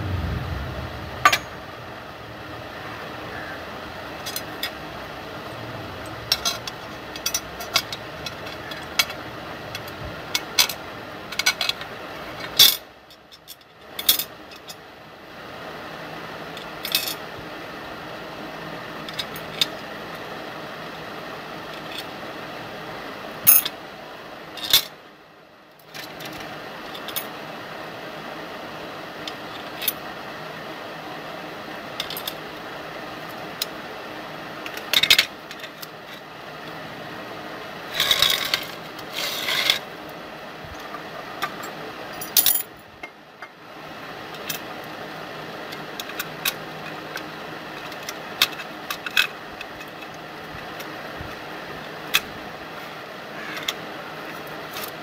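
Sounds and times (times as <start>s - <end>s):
steady background noise: 0.0s - 55.0s.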